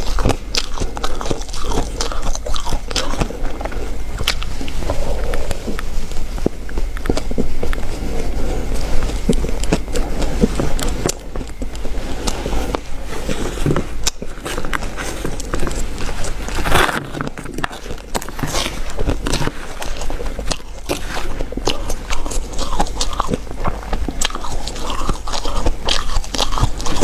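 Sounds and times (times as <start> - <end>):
ice crunching being chewed: 0.0 - 27.0.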